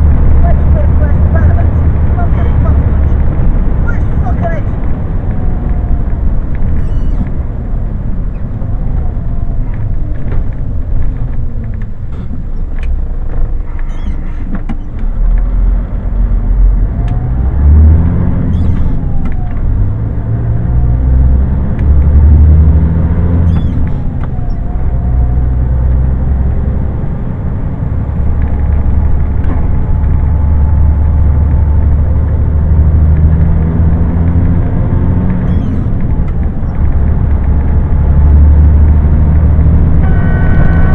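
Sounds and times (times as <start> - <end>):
lorry diesel engine running: 0.0 - 40.9
road rumble: 0.0 - 40.9.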